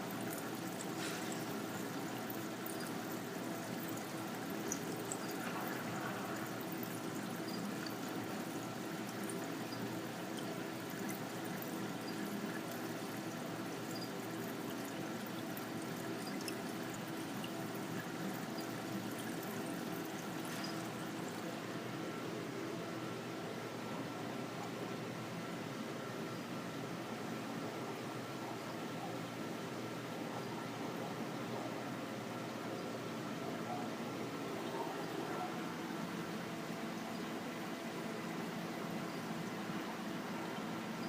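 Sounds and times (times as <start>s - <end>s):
steady hum: 0.0s - 41.0s
water trickling from tank filters: 0.0s - 41.0s.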